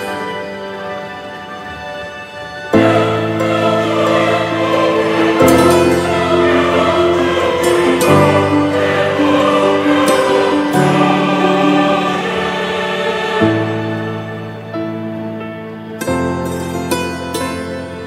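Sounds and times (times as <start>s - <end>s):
slow sustained chords music: 0.0s - 18.0s.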